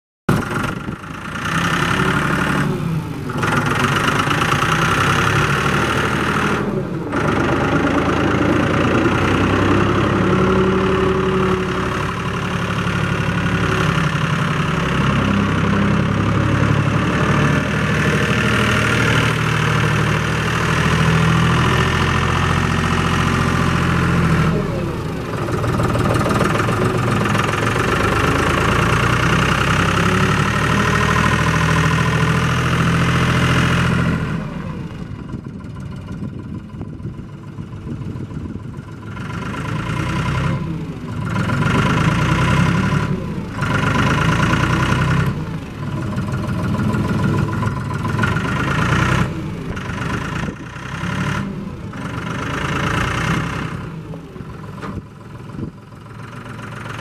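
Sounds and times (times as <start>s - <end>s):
tractor diesel engine running: 0.3s - 57.0s.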